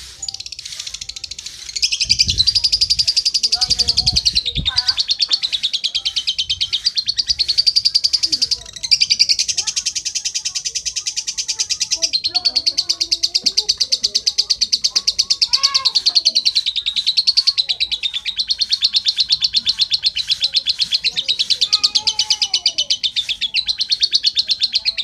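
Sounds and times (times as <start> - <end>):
bird chirping rapidly: 0.0 - 25.0.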